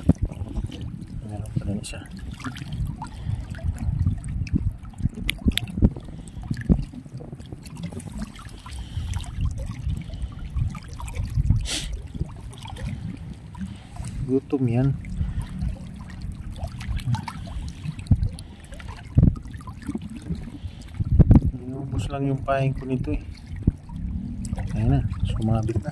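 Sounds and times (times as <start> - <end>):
low rumble: 0.0 - 25.9
water trickling among rocks: 0.0 - 25.9.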